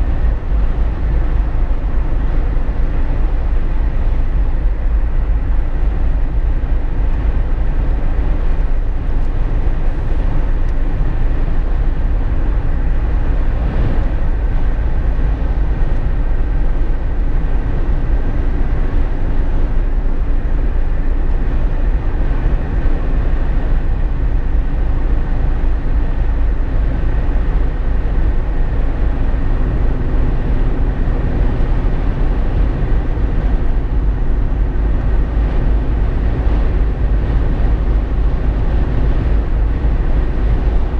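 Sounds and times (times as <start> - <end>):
car road rumble: 0.0 - 40.9
wind noise: 0.0 - 40.9.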